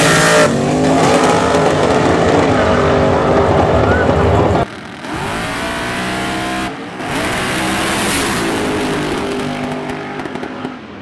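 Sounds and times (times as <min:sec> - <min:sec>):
drag cars accelerating at full throttle: 0:00.0 - 0:11.0.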